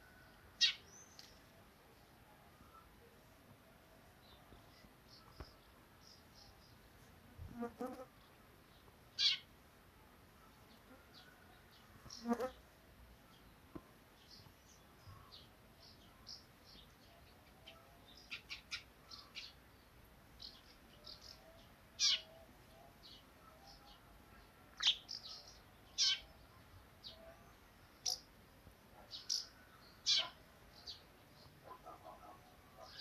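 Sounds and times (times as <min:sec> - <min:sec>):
small birds chirping: 0:00.6 - 0:03.0, 0:04.2 - 0:07.0, 0:08.1 - 0:09.5, 0:10.4 - 0:28.3, 0:29.0 - 0:33.0.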